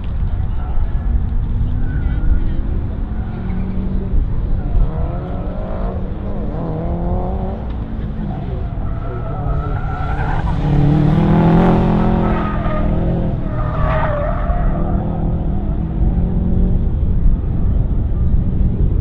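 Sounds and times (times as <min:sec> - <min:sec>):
car engine revving: 0:01.6 - 0:19.0.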